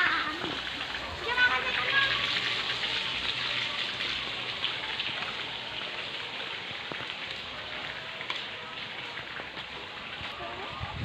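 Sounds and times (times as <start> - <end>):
pattering splashing water: 0.0 - 10.8.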